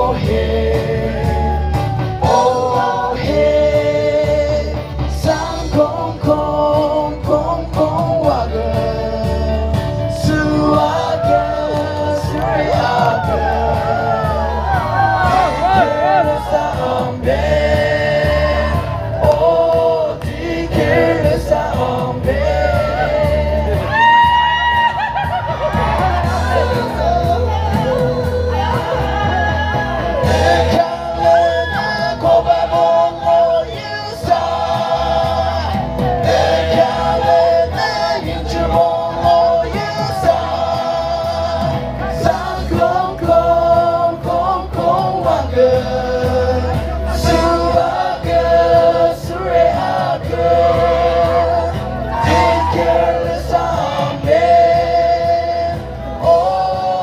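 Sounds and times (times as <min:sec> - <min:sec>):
heavy bass line: 0:00.0 - 0:57.0
voices singing in harmony: 0:00.0 - 0:57.0.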